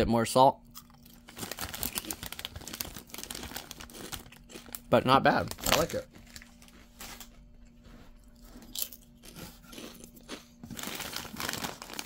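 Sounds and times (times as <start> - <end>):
person chewing crunchy chips: 0.6 - 12.0
chip bag rustling: 1.1 - 7.3, 8.4 - 12.0.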